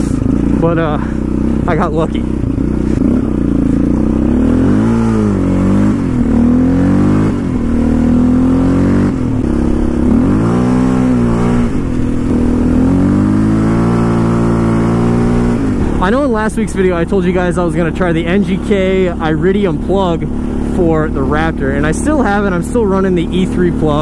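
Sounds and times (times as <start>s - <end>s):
quad engine accelerating: 0.0s - 24.0s.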